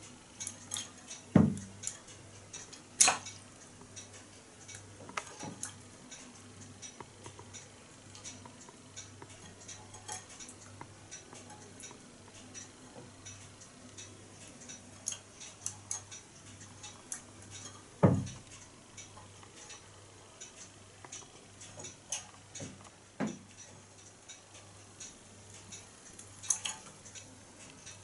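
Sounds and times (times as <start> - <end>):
faint ticks and clicks: 0.0 - 28.0.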